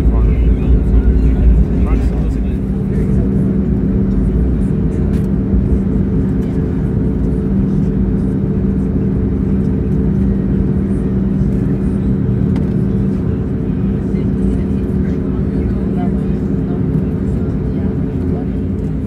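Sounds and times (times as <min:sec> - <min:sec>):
airplane engines droning in cabin: 0:00.0 - 0:19.0.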